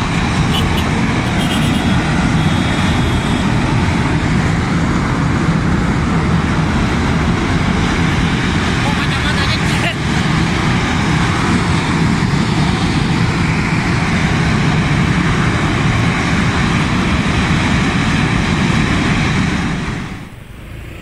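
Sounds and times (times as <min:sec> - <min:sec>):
gas venting with rushing noise: 0:00.0 - 0:21.0.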